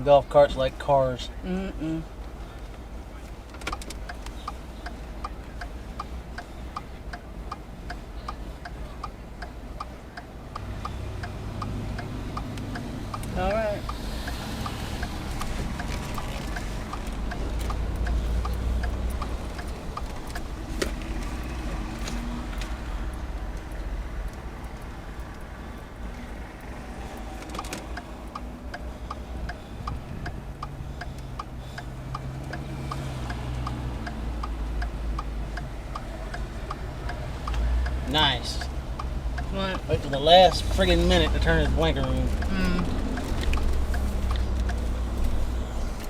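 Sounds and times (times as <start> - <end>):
engine and road rumble: 0.0 - 46.0
turn signal ticking: 0.0 - 46.0.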